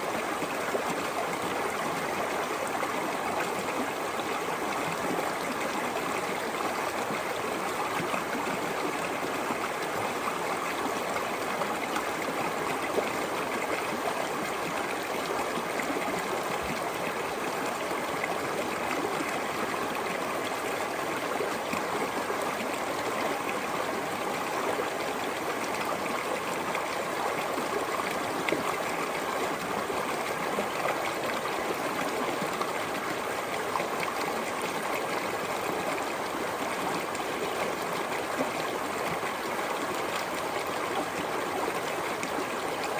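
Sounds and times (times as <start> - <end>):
stream flowing over stones: 0.0 - 42.9.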